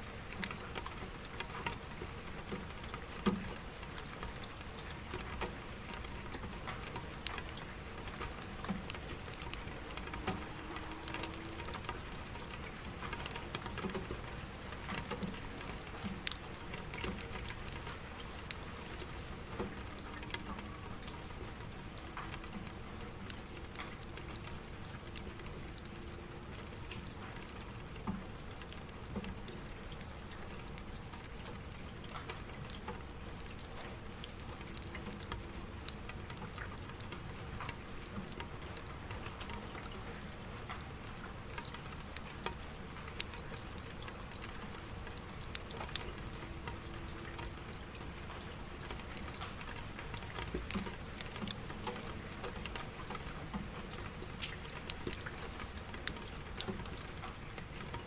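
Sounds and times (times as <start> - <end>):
rain falling steadily: 0.0 - 58.0
raindrops ticking sharply: 0.1 - 58.0.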